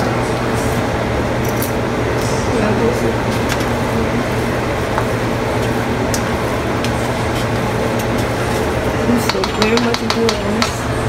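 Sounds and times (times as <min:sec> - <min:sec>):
steady low hum and hiss: 0:00.0 - 0:11.0.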